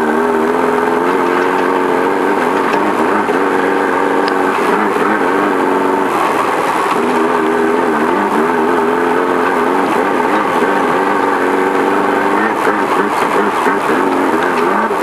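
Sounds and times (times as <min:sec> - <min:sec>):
race car engine revving under load: 0:00.0 - 0:15.0.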